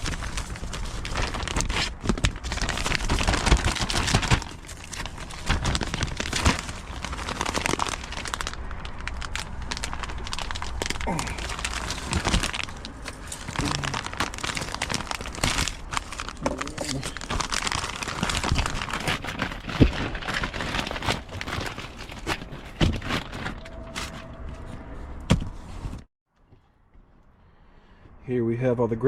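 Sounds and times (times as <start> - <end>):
packaging crinkling and rustling: 0.0 - 24.3.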